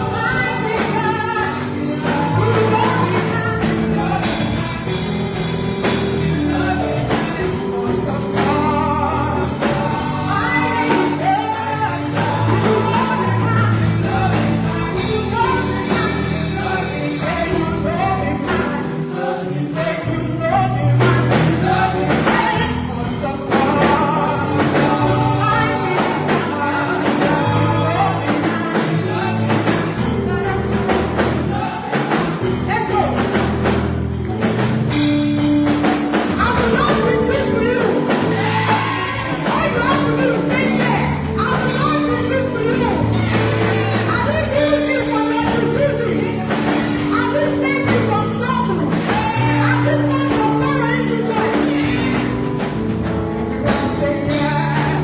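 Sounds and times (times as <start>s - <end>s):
group singing gospel: 0.0s - 55.0s
instrumental backing with bass: 0.0s - 55.0s.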